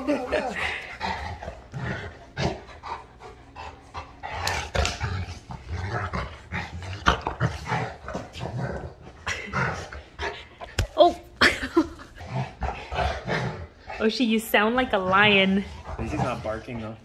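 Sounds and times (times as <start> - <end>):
dogs panting: 0.0 - 10.8, 11.5 - 17.0
dogs play growling: 0.0 - 17.0.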